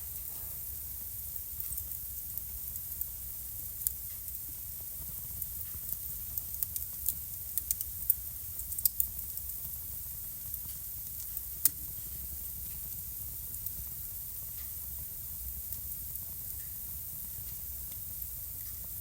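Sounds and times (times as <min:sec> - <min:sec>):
wood fire rumbling and crackling: 0:00.0 - 0:19.0.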